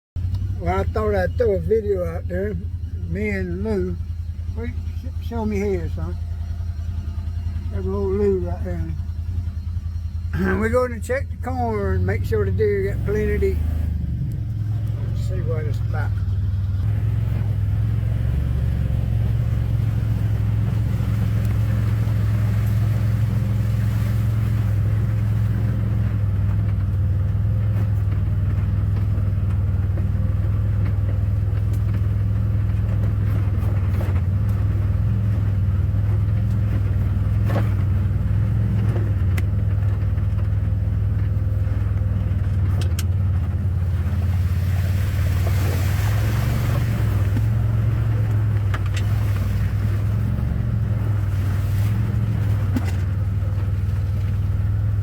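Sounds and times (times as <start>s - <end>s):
vehicle engine droning: 0.2s - 55.0s.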